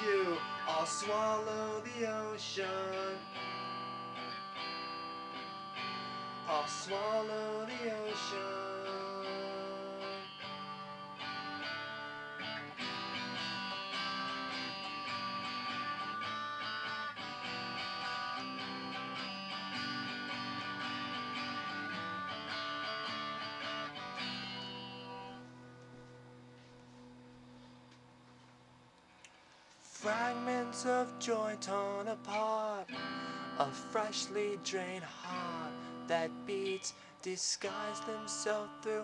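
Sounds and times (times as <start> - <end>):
guitar strumming chords: 0.0 - 28.5, 29.8 - 39.0.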